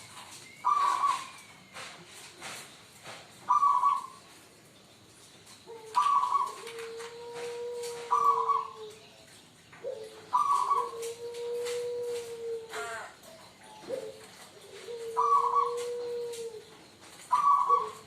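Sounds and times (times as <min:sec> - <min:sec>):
dove cooing: 0:00.0 - 0:01.9, 0:03.5 - 0:04.3, 0:05.6 - 0:09.2, 0:09.8 - 0:18.0.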